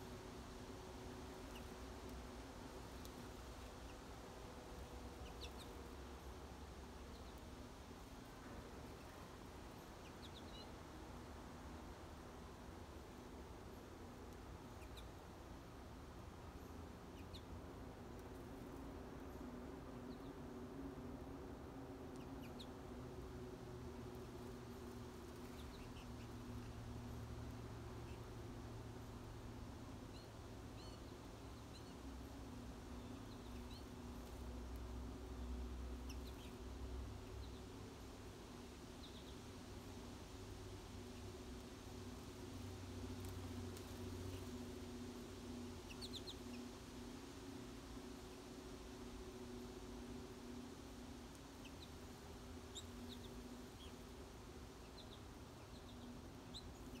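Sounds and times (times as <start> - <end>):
low steady hum: 0.0 - 57.0
songbirds chirping: 0.0 - 57.0.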